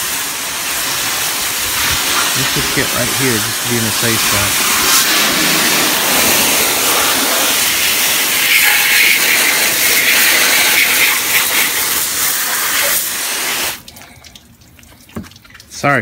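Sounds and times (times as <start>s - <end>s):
hose water spraying on metal: 0.0s - 13.9s.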